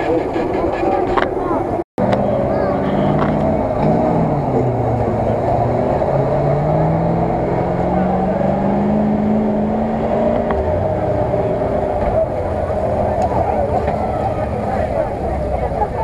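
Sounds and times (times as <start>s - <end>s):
crowd voices: 0.0s - 16.0s
truck engine under load: 0.0s - 16.0s.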